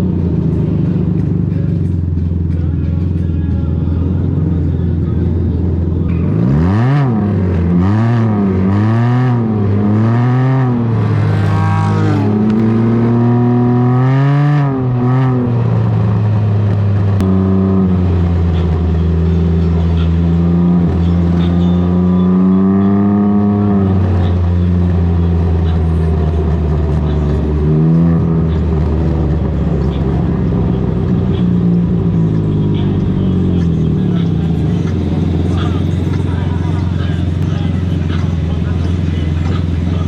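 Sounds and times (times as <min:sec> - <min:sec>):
motorcycle engine revving: 0:00.0 - 0:40.0
steady low drone: 0:00.0 - 0:40.0.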